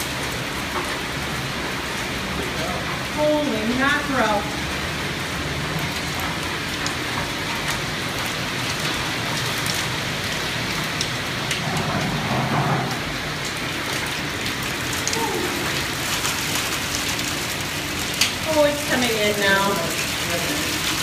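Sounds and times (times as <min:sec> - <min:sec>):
hail hissing through window: 0:00.0 - 0:21.0
hailstones ticking: 0:00.0 - 0:21.0.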